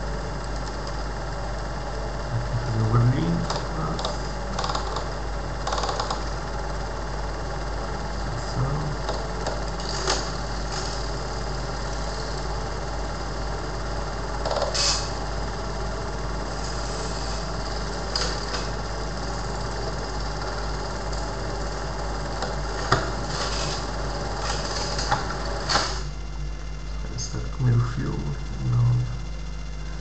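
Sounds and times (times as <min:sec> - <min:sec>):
film projector mechanical hum: 0:00.0 - 0:30.0.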